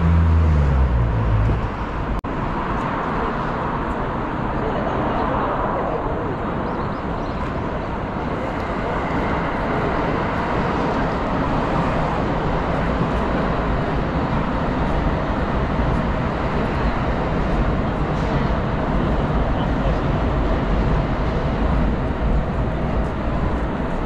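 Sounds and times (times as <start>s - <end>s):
busy road traffic: 0.0s - 24.0s.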